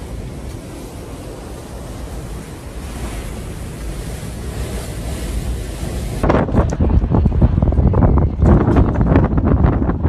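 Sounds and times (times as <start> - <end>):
storm wind blowing hard: 0.0 - 10.0.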